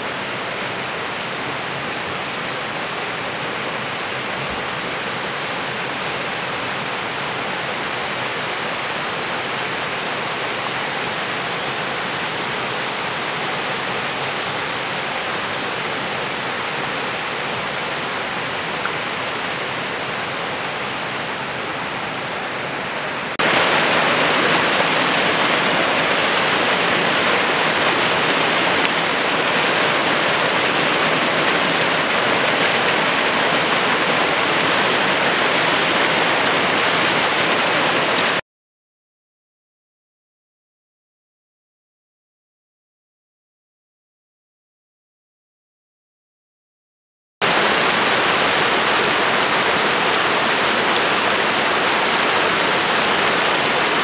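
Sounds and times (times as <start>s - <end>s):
stream rushing over boulders: 0.0s - 38.4s, 47.4s - 54.0s.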